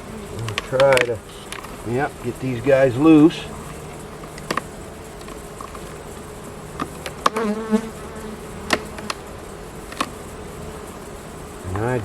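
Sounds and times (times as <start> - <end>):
bee buzzing close by: 0.0 - 12.0
bees humming in hive: 0.0 - 12.0
hive frames clicking and knocking: 0.0 - 12.0.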